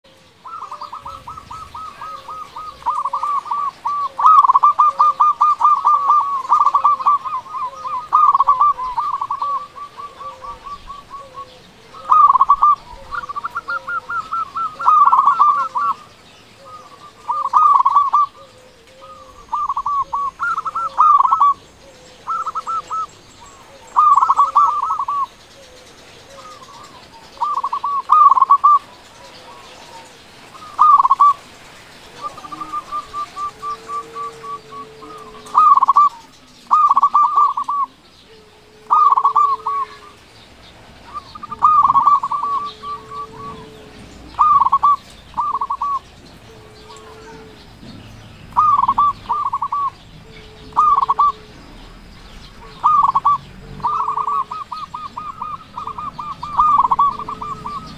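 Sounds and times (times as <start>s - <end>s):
dove cooing trills: 0.0s - 57.9s.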